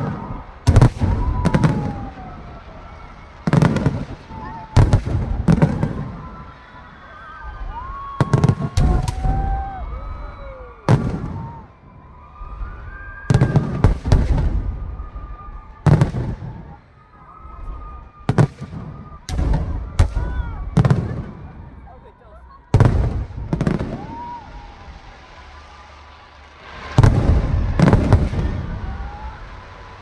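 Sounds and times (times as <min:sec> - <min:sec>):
low rumble after bangs: 0:00.0 - 0:21.9, 0:22.6 - 0:30.0
fireworks bangs: 0:00.0 - 0:30.0.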